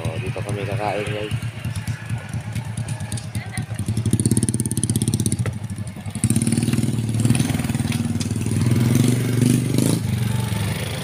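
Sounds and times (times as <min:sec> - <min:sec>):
small motorcycle engine: 0:00.0 - 0:11.0.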